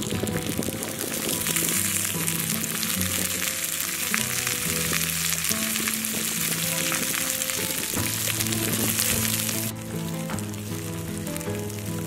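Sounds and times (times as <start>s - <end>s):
greens sizzling in hot oil: 0.0s - 12.0s.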